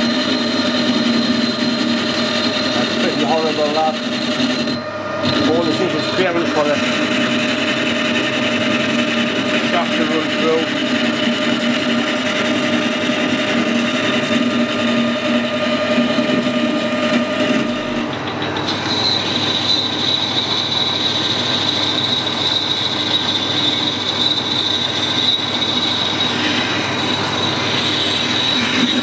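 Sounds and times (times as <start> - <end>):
high-pitched cutting squeal: 0.0 - 29.0
metal lathe cutting: 0.0 - 29.0.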